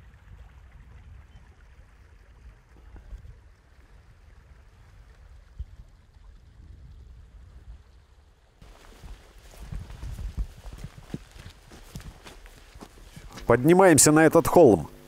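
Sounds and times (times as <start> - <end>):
low uneven rumble: 0.0 - 13.7.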